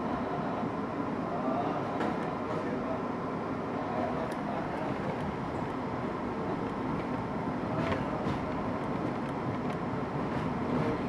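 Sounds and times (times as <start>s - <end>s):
subway train wheels on rail: 0.0s - 11.0s.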